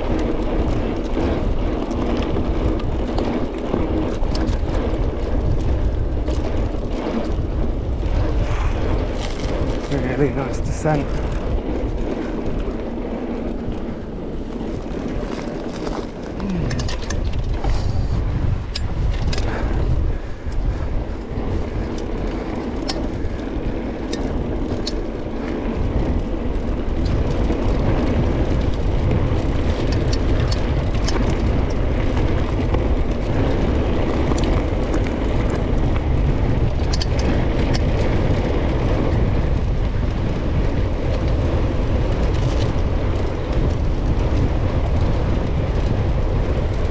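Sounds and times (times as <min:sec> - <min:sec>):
bike rattling: 0:00.0 - 0:46.9
bike tyres rumbling over ground: 0:00.0 - 0:46.9
wind buffeting microphone: 0:00.0 - 0:46.9.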